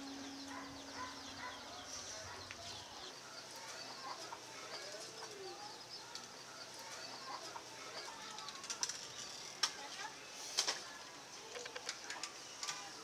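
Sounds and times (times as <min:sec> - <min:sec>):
faint outdoor background: 0:00.0 - 0:13.0
small birds chirping: 0:00.0 - 0:13.0.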